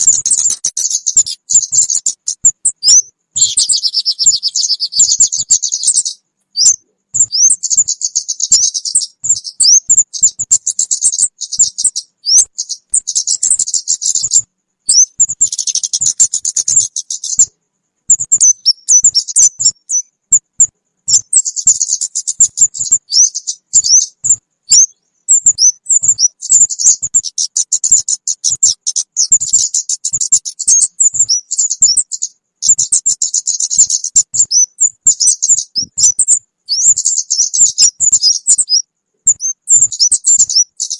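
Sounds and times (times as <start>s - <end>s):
small bird chirping: 0.0s - 40.9s.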